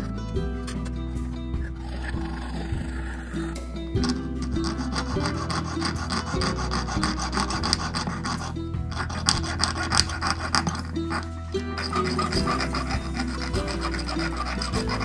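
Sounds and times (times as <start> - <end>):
saw cutting copper wire: 1.6 - 15.0.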